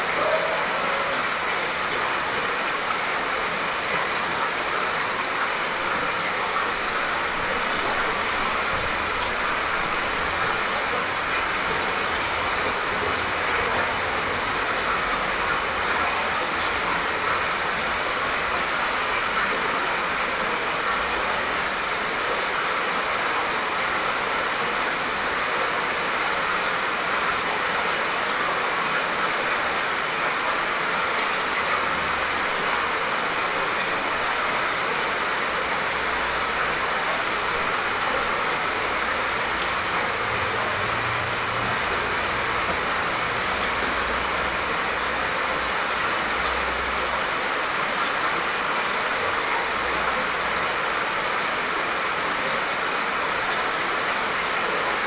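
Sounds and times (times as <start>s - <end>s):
soft rain falling: 0.0s - 55.0s.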